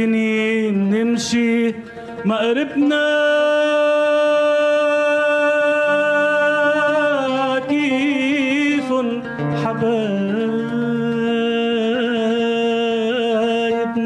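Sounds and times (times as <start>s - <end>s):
oud playing low notes: 0.0s - 14.0s.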